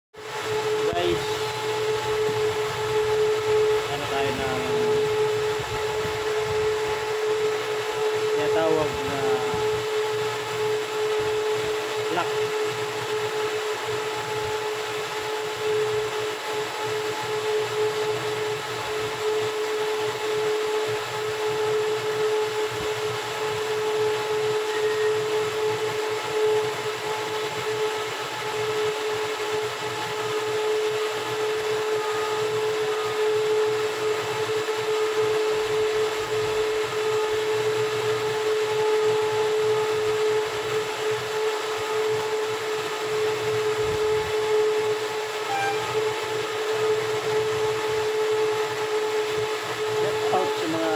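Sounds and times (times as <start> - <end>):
machine humming with whine: 0.2 - 50.9.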